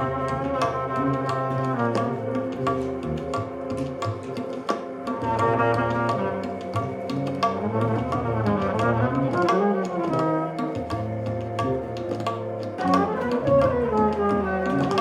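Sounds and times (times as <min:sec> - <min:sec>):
double bass low notes: 0:00.0 - 0:04.0, 0:05.3 - 0:15.0.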